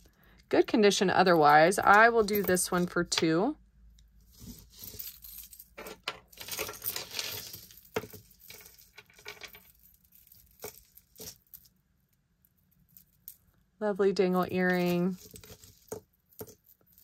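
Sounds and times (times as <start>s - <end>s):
cord and chain rustling: 0.0s - 3.2s, 4.2s - 13.6s, 14.2s - 17.0s
beads and charms clinking: 0.0s - 3.5s, 4.3s - 11.8s, 14.2s - 17.0s.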